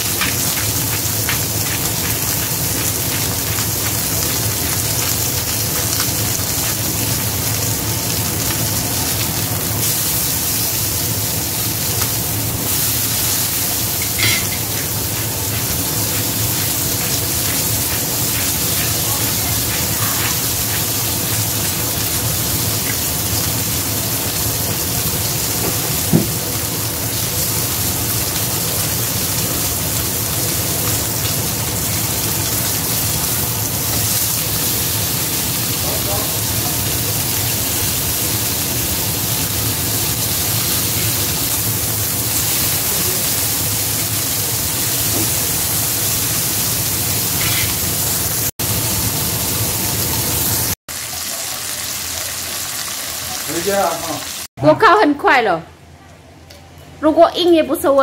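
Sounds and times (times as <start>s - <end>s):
meat sizzling in hot oil: 0.0s - 54.6s.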